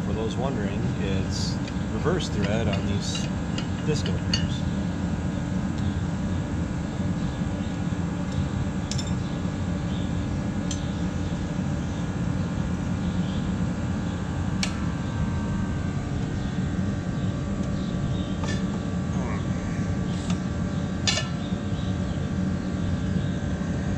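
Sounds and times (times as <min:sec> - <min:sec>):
low machine drone: 0:00.0 - 0:23.9.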